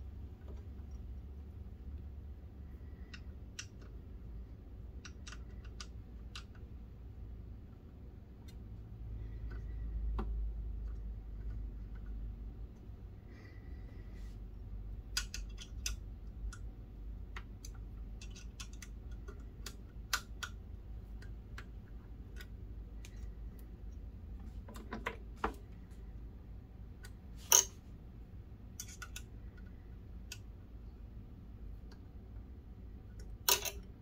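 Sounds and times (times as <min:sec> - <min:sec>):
small clicks of plastic parts: 0:00.3 - 0:13.0, 0:14.9 - 0:26.1, 0:26.9 - 0:27.8, 0:28.7 - 0:30.9, 0:31.6 - 0:34.0.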